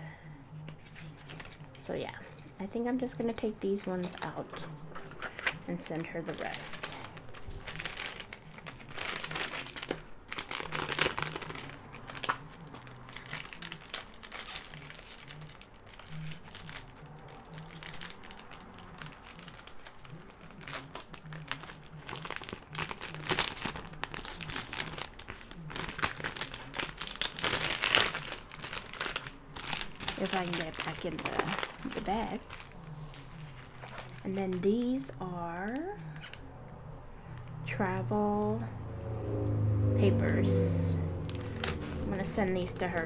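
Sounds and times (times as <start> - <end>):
packaging bag crinkling: 0.8 - 1.8, 3.7 - 36.4, 41.2 - 43.0.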